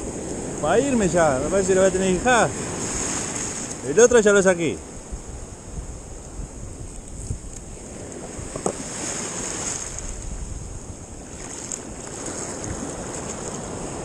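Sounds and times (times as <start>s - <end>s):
surf washing up the beach: 0.0s - 14.0s
wind buffeting the microphone: 0.0s - 14.0s.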